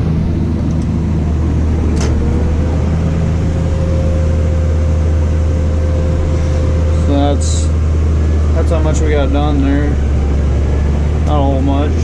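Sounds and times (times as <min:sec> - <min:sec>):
faint whine: 0:00.0 - 0:12.0
tractor engine running: 0:00.0 - 0:12.0.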